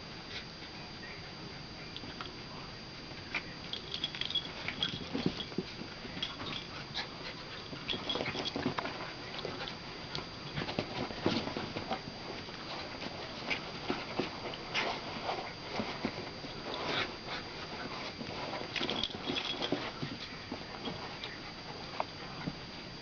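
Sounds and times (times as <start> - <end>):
puppies scuffling: 3.3 - 22.6.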